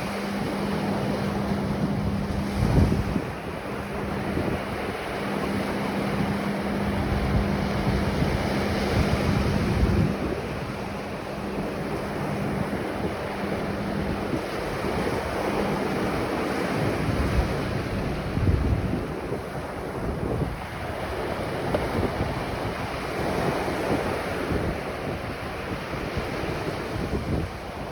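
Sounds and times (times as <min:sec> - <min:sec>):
ocean surf on beach: 0:00.0 - 0:27.9
wind gusting on microphone: 0:00.0 - 0:27.9.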